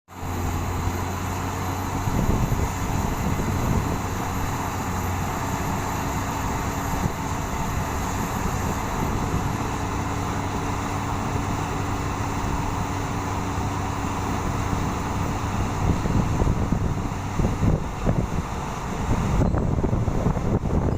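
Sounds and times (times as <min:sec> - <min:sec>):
drilling rig engine drone: 0:00.1 - 0:20.9.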